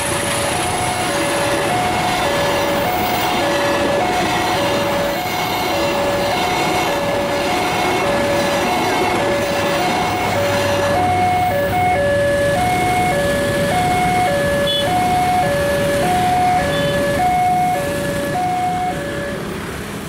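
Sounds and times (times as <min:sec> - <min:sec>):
level crossing two-tone alarm: 0:00.0 - 0:19.6
motorcycle engines: 0:00.0 - 0:20.0
train rumbling past: 0:00.0 - 0:20.0.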